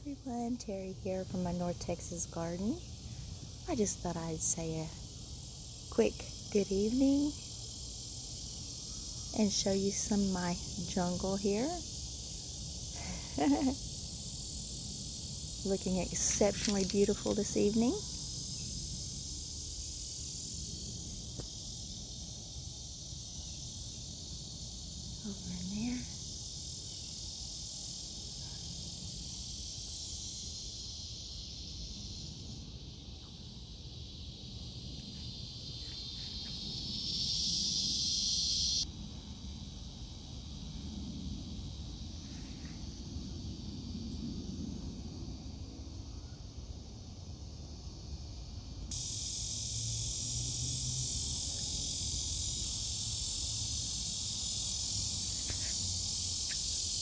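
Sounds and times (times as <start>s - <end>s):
insect chorus shrill hiss: 0.0s - 57.0s.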